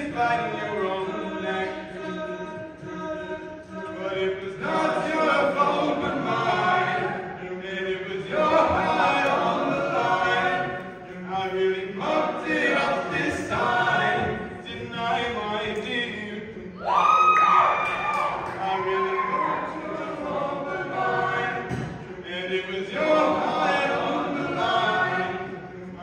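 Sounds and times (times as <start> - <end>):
male a cappella group singing: 0.0 - 26.0.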